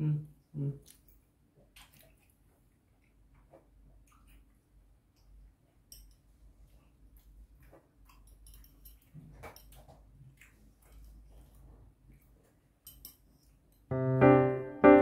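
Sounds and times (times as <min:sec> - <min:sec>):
chewing soft fruit: 0:00.2 - 0:12.8.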